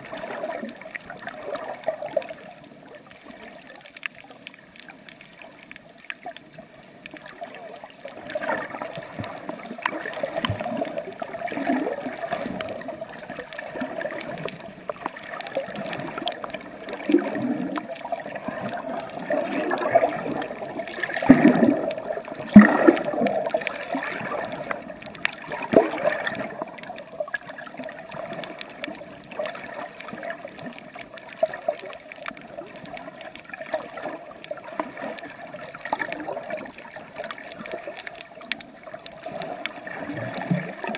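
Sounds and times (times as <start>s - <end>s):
water sloshing underwater: 0.0s - 40.9s.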